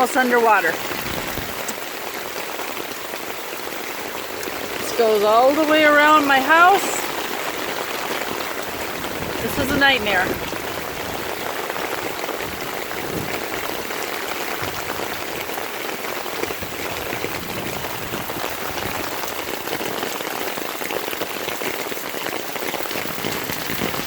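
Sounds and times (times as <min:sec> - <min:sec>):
rain falling on water: 0:00.0 - 0:24.0.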